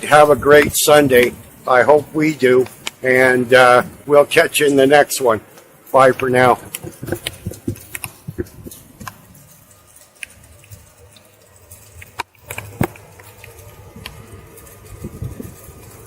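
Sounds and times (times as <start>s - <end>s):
water dripping: 0.0s - 16.0s.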